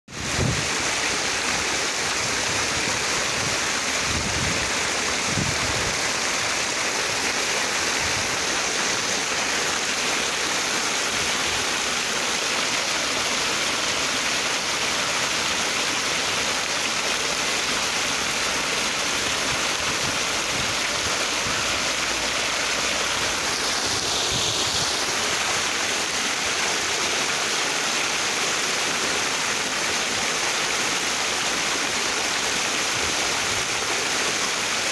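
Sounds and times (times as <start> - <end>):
small waterfall rushing: 0.1 - 34.9.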